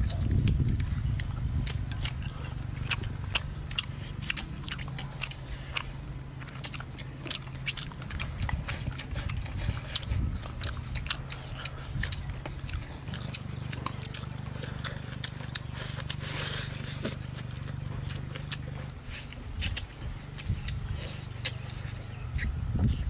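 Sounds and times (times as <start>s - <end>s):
person chewing and smacking: 0.0s - 23.0s
steady low hum: 0.0s - 23.0s.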